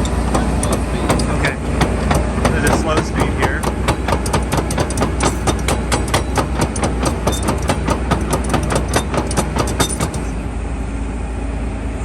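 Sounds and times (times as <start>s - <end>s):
steel tracks clanking: 0.0s - 10.5s
diesel engine running: 0.0s - 11.5s.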